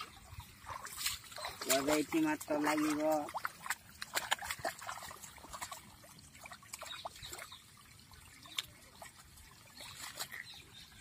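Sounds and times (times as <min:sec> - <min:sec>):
shallow water trickling: 0:00.0 - 0:11.0
small splashes and ticks: 0:00.0 - 0:11.0.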